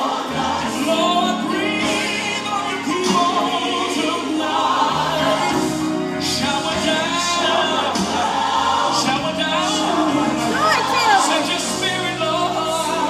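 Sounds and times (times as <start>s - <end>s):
choir singing gospel: 0.0s - 13.0s
instrumental backing: 0.0s - 13.0s
bass line: 0.3s - 13.0s.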